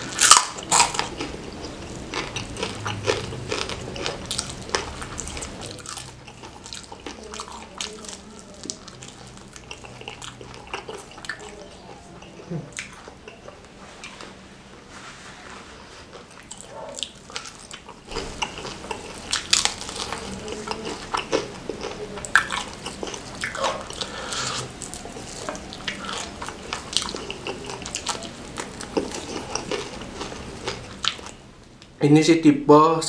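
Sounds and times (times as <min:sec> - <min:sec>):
wet chewing and lip-smacking: 0:00.0 - 0:14.4, 0:16.1 - 0:31.9.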